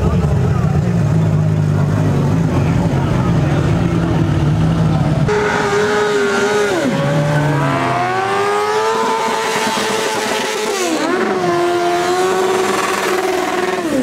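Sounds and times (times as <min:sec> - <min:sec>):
motorcycle engine revving high: 0:00.0 - 0:14.0.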